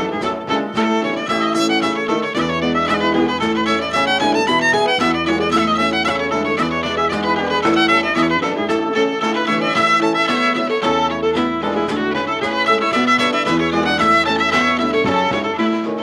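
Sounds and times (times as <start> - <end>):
fiddle playing a hornpipe: 0.0 - 16.0.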